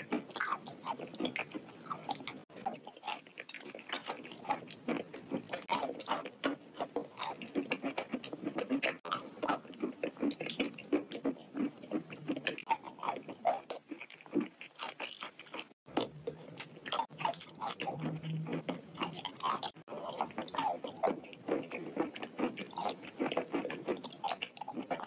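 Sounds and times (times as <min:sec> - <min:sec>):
chewing with mouth clicks: 0:00.0 - 0:25.0.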